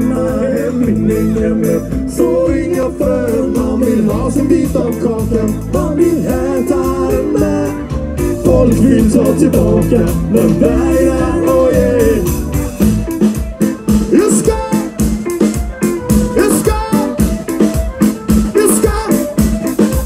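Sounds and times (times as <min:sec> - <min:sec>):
live band amplified music: 0:00.0 - 0:20.0.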